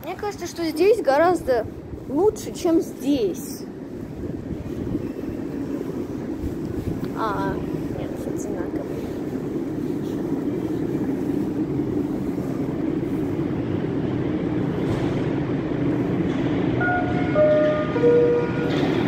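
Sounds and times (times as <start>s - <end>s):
metro train rumbling: 0.0s - 19.0s.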